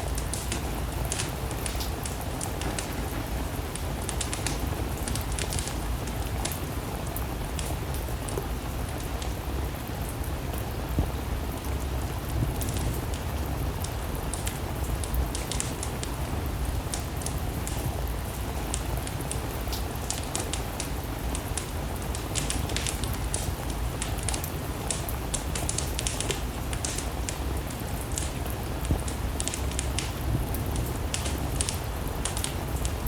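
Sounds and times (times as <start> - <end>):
steady rain: 0.0 - 33.0
wood fire crackling: 0.0 - 33.0.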